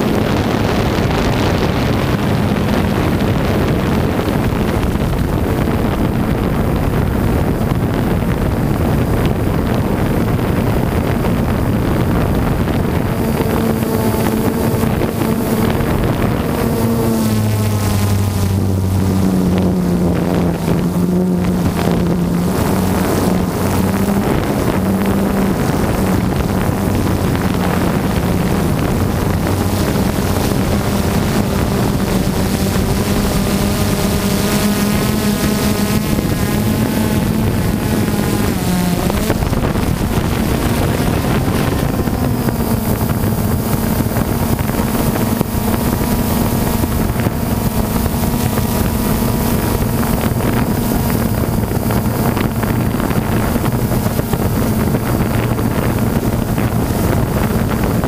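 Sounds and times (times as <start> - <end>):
drone buzzing hum: 0.0 - 58.0
wind noise on microphone: 0.0 - 58.0.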